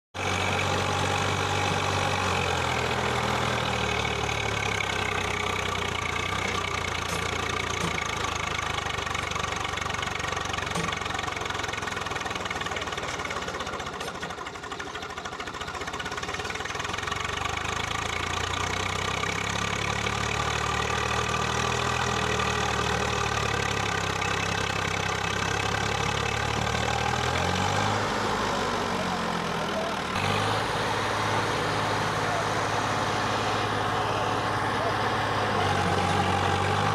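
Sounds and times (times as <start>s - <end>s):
tractor diesel engine running: 0.2s - 36.9s.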